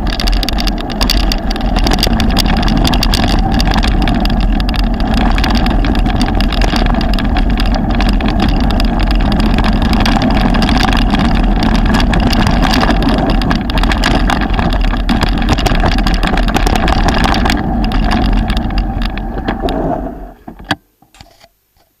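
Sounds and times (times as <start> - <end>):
bike rattling over gravel: 0.0 - 20.4
wind rushing over microphone: 0.0 - 20.5.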